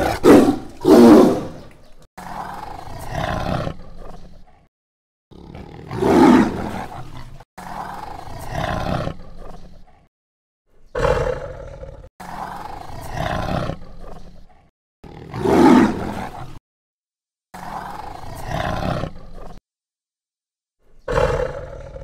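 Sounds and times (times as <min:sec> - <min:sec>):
tiger roaring: 0:00.0 - 0:04.7, 0:05.3 - 0:10.1, 0:10.9 - 0:16.6, 0:17.6 - 0:19.6, 0:21.0 - 0:22.0.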